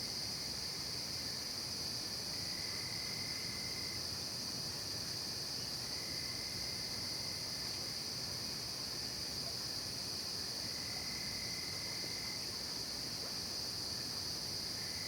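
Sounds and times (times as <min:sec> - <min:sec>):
fainter lower insect trill: 0:00.0 - 0:15.0.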